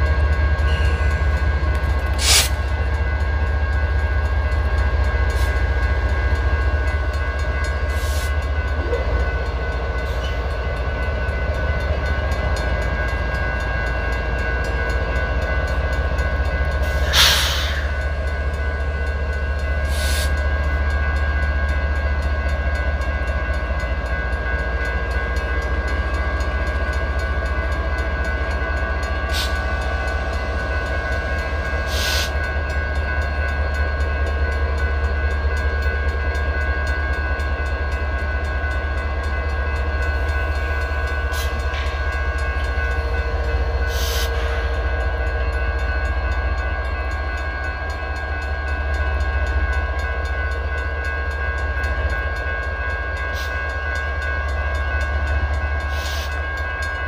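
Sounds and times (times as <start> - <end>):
crossing bell ringing: 0.0 - 57.0.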